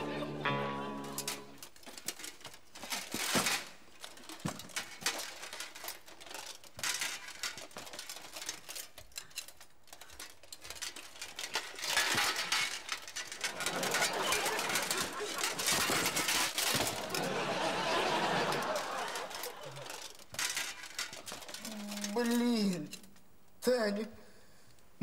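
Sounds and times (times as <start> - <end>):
plate armour clinking: 0.8 - 23.3.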